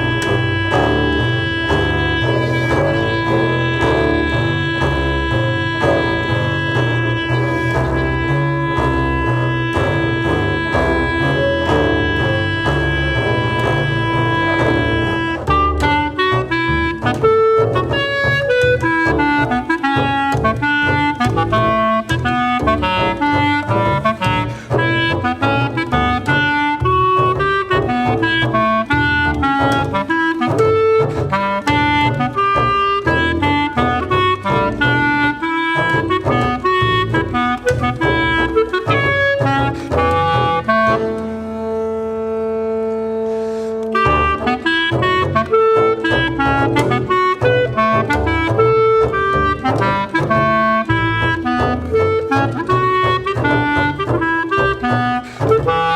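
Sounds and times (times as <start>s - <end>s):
clarinet playing quick notes: 0.0s - 55.9s
double bass low line: 0.0s - 55.9s.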